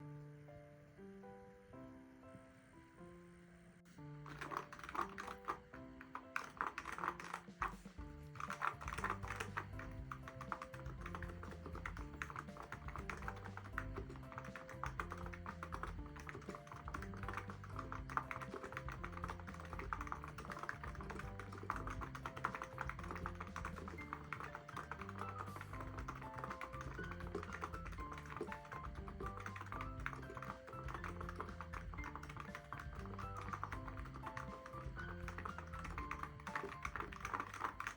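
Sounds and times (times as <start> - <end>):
keyboard typing clacks: 4.2 - 37.9.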